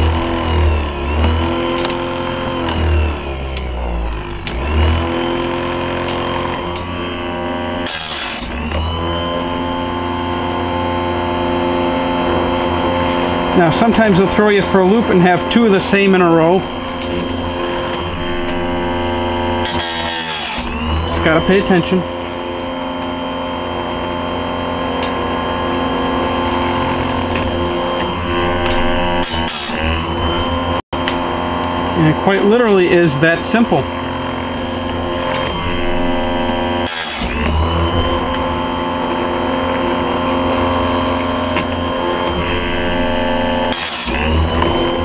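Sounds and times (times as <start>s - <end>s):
chain sharpener motor grinding: 0.0s - 45.0s.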